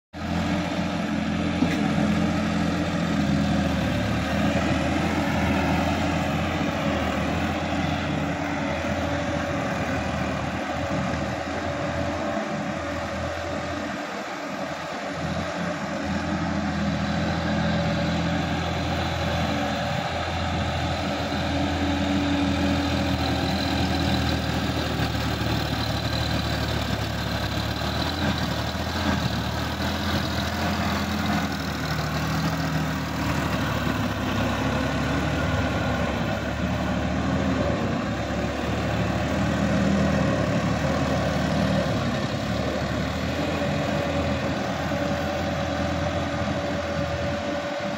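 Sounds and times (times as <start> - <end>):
tractor diesel engine running: 0.1 - 47.9.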